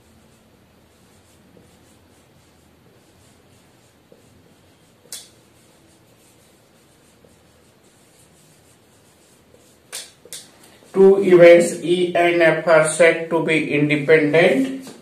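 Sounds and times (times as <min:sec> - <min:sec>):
marker pen writing on whiteboard: 0:00.0 - 0:15.0.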